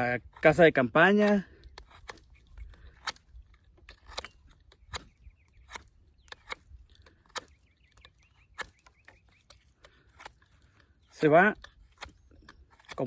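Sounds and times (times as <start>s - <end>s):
knife shaving wood: 0.0s - 13.0s.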